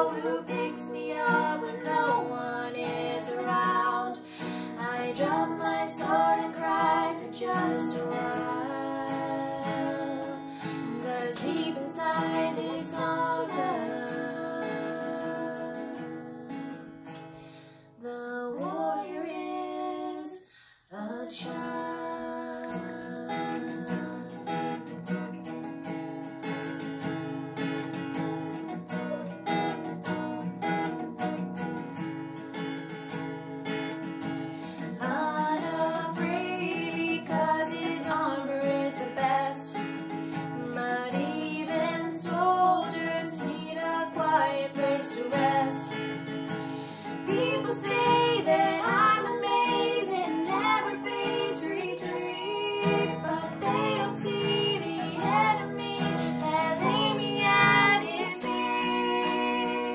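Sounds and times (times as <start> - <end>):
women singing: 0.0 - 17.1, 18.0 - 25.0, 34.7 - 59.9
acoustic guitar strumming: 0.0 - 17.8, 21.4 - 59.9.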